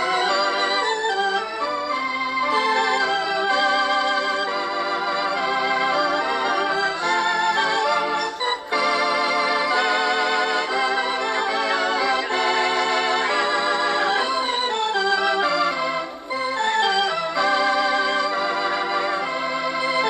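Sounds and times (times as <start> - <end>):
electronic organ chords: 0.0 - 20.0.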